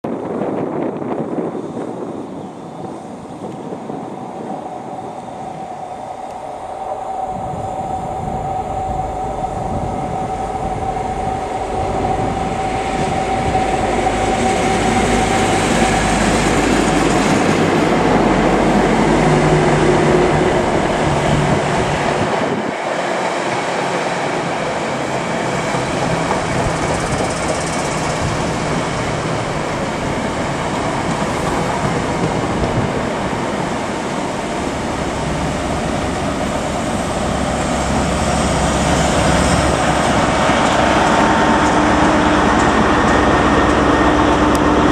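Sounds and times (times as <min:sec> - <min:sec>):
diesel train engine whine: 0:00.1 - 0:44.9
train wheels on rails: 0:00.1 - 0:44.9.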